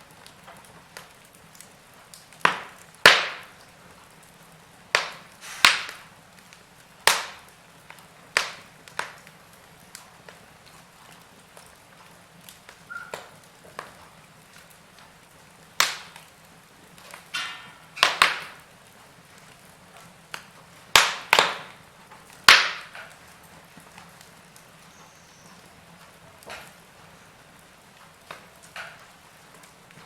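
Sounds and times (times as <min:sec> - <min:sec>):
logs crackling in fireplace: 0:00.0 - 0:30.0
loud sharp pops of fire: 0:00.0 - 0:30.0
low steady hiss: 0:00.0 - 0:30.0.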